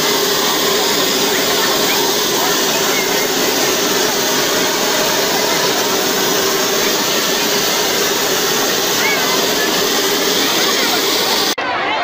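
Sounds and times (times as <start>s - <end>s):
jet aircraft engine running: 0.0s - 11.6s.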